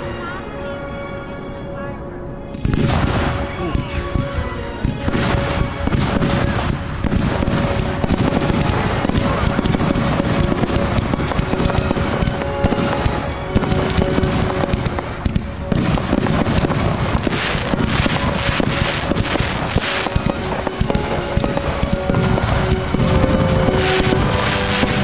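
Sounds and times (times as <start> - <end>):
music playing: 0.0 - 25.0
fireworks bursting and crackling: 2.5 - 25.0.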